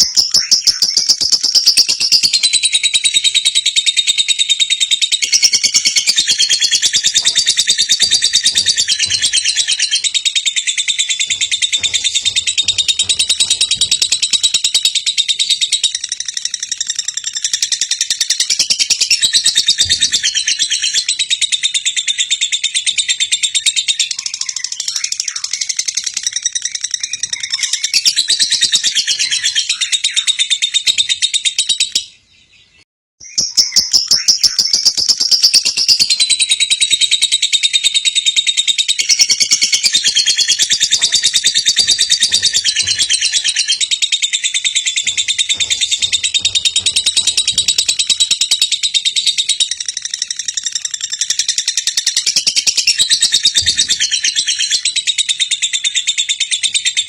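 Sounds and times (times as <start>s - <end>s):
lovebird chattering trill: 0.0s - 22.8s, 33.3s - 57.0s.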